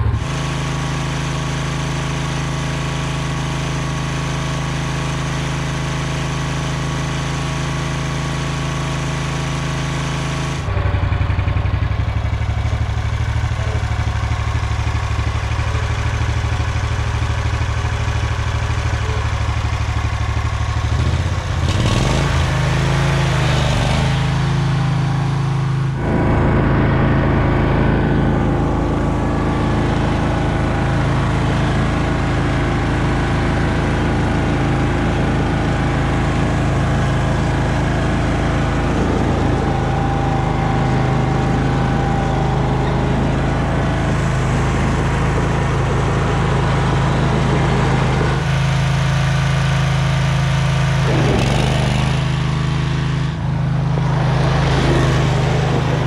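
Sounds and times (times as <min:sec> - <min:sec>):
ride-on mower engine running: 0:00.0 - 0:56.0.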